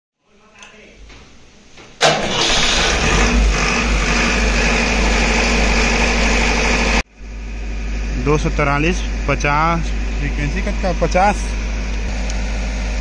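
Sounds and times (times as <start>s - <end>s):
diesel generator engine running: 2.0s - 13.0s.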